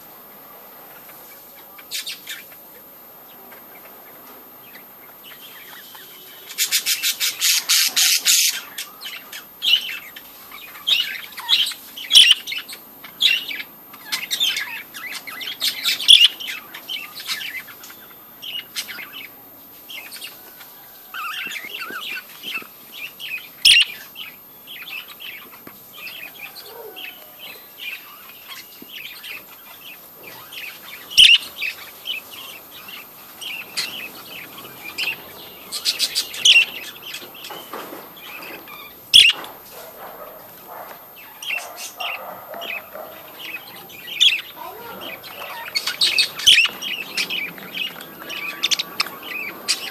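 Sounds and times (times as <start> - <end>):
budgerigars chirping: 0.9 - 2.8, 3.5 - 49.9.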